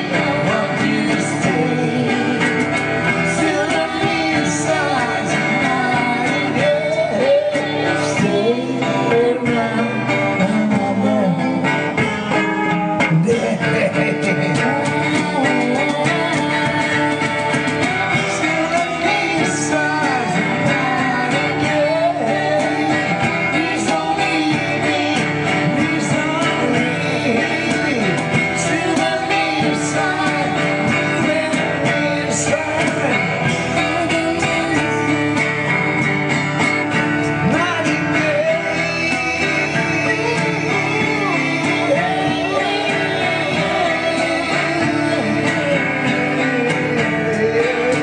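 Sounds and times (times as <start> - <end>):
woman singing: 0.0 - 12.4, 13.0 - 36.0, 37.4 - 48.0
man singing: 0.0 - 36.0, 36.8 - 48.0
twelve-string guitar strummed: 0.0 - 48.0.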